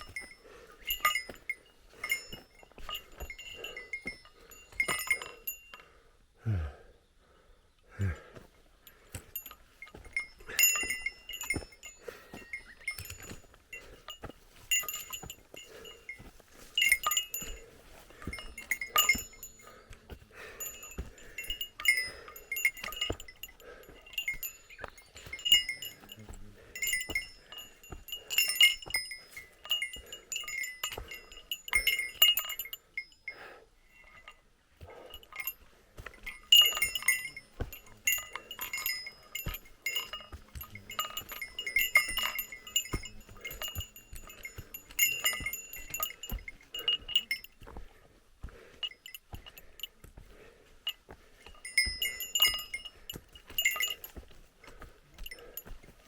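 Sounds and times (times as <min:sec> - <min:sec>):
small metal bell jingling: 0:00.0 - 0:06.0, 0:08.1 - 0:56.0.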